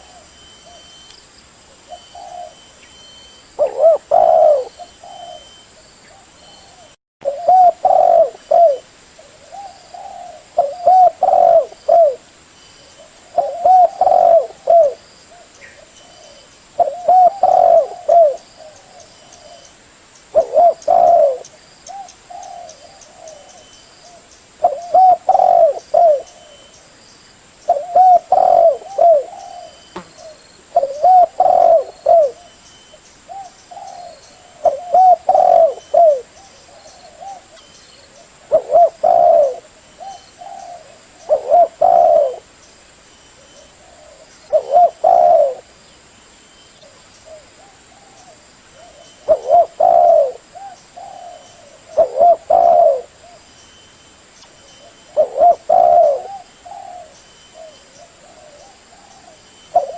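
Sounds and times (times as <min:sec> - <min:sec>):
dove cooing: 0:01.7 - 0:02.7, 0:03.6 - 0:12.3, 0:12.9 - 0:19.7, 0:20.3 - 0:26.7, 0:27.7 - 0:32.6, 0:33.3 - 0:42.5, 0:43.4 - 0:45.7, 0:46.8 - 0:53.5, 0:54.8 - 0:59.9.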